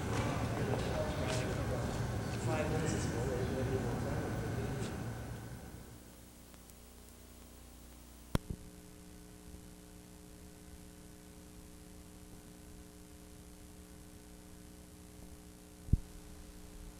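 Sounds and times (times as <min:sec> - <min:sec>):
electrical hum and hiss: 0:00.0 - 0:16.9.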